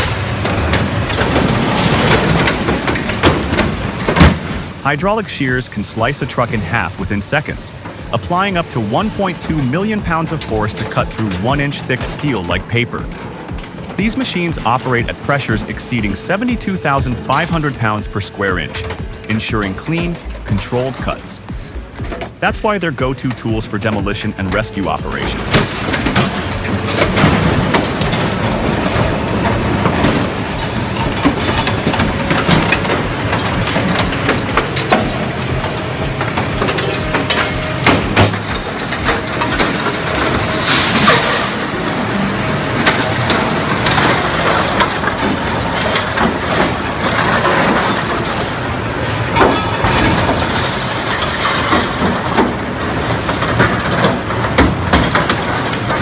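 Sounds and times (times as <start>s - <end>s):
heavy machinery engine: 0.0s - 56.0s.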